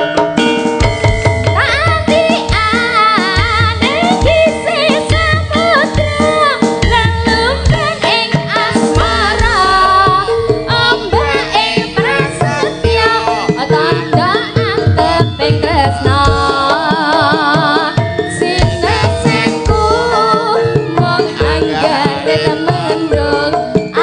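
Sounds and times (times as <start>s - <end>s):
sustained metallophone tones: 0.0s - 24.0s
person singing with vibrato: 1.6s - 24.0s.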